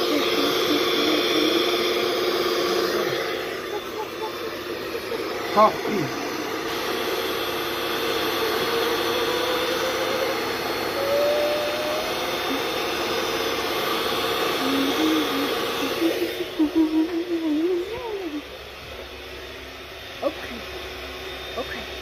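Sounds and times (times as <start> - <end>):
electric mixer whisking: 0.0 - 22.0.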